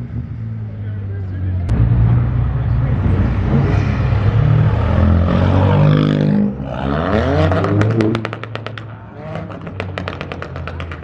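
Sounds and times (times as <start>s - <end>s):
car engine revving: 1.7s - 11.0s.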